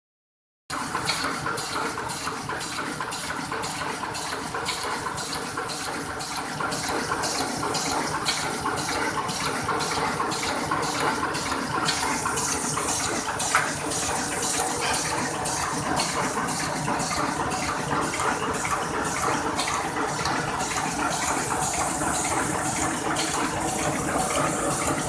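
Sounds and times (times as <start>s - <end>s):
printing machine clacking: 0.7s - 25.0s.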